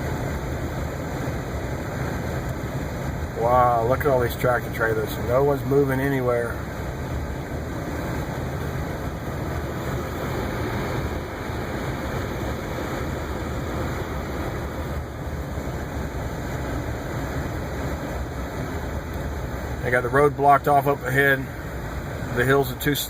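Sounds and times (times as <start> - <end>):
car engine humming inside cabin: 0.0 - 23.0.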